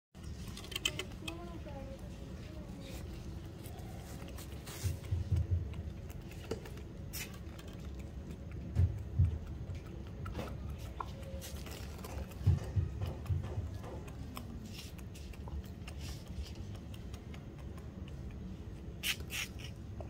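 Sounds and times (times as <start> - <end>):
rooster pecking on concrete: 0.3 - 20.0.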